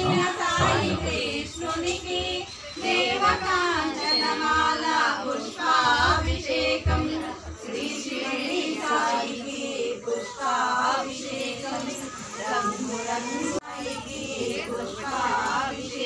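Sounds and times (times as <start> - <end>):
women and children singing: 0.0 - 16.0.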